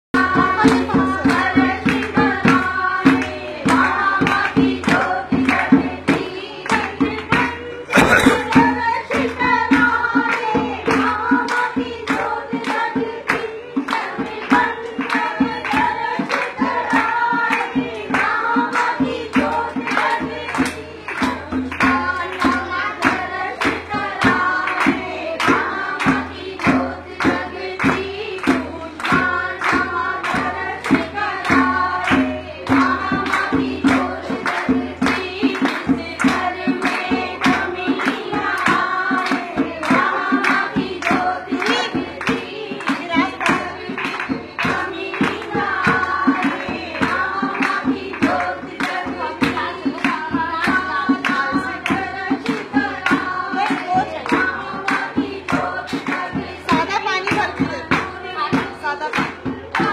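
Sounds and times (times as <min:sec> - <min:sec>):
group singing a hymn: 0:00.2 - 0:56.8, 0:59.4 - 0:59.9
hand-clapping: 0:00.2 - 0:59.9.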